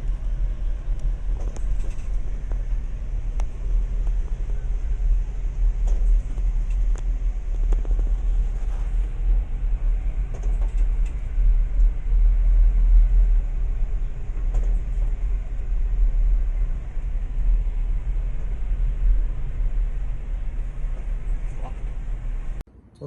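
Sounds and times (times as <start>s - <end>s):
boat engines rumbling: 0.0s - 22.6s.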